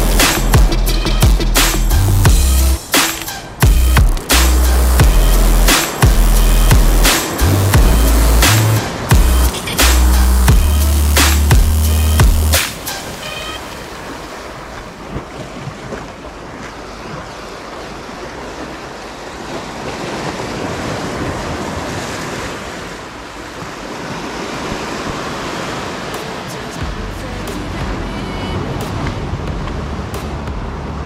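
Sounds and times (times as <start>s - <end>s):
sea waves washing: 0.0s - 31.0s.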